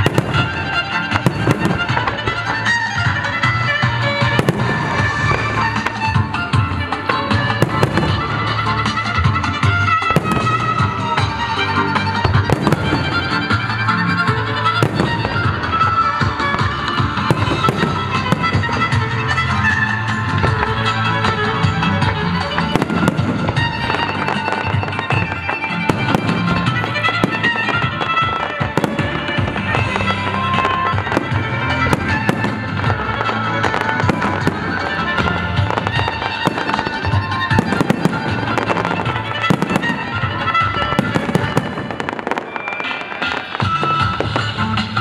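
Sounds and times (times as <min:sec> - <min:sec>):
fireworks bursting and crackling: 0:00.0 - 0:45.0
music playing: 0:00.0 - 0:45.0
sharp bangs: 0:00.0 - 0:45.0.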